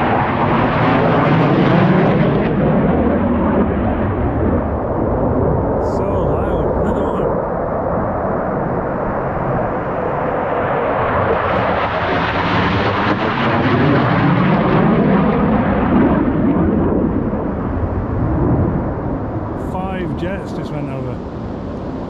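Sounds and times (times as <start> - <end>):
fighter jets passing overhead: 0.0 - 22.0.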